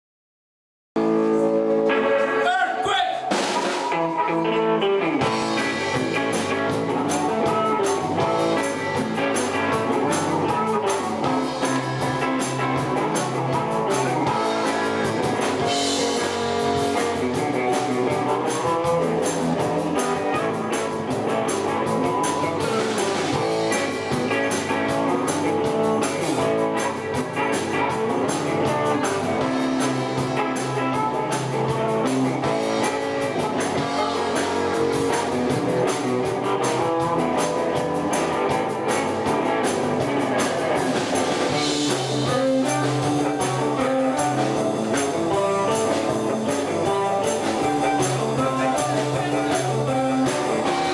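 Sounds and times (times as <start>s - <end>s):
bass guitar: 1.0s - 50.9s
drum kit: 1.0s - 50.9s
electric guitar: 1.0s - 50.9s.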